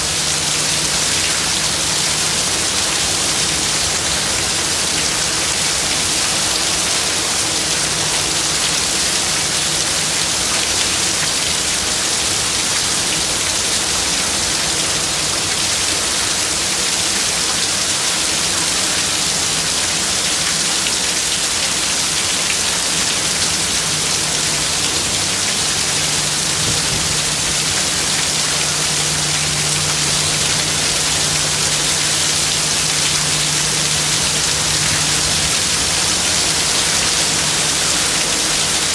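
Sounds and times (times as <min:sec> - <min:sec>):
heavy rain pelting down: 0:00.0 - 0:38.9.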